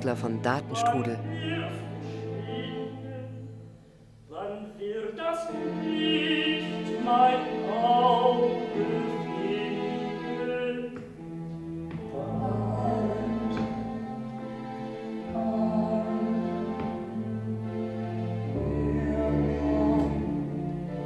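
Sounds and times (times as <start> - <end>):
sustained instrumental accompaniment: 0.0 - 4.3, 5.2 - 21.0
operatic singing with vibrato: 0.0 - 21.0.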